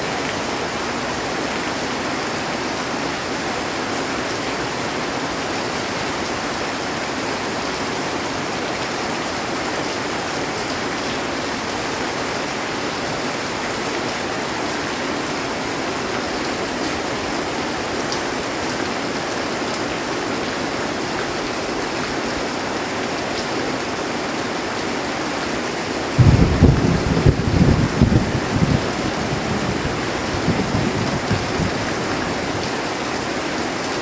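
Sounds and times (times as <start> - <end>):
heavy rain on a metal roof: 0.0 - 34.0.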